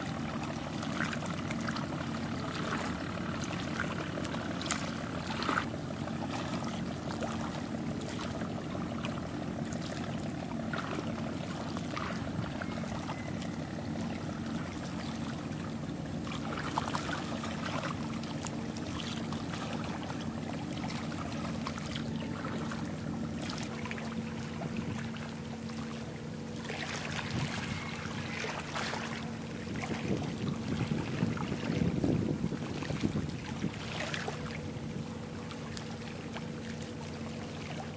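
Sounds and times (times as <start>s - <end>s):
ship engine hum: 0.0s - 37.9s
water washing along hull: 0.0s - 37.9s.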